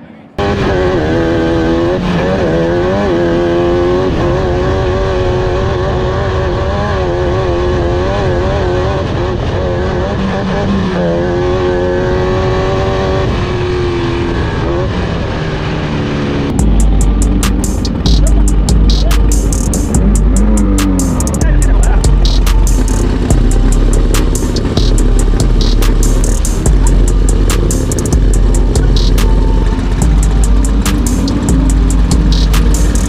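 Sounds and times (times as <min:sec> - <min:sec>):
race car engine revving: 0:00.0 - 0:33.0.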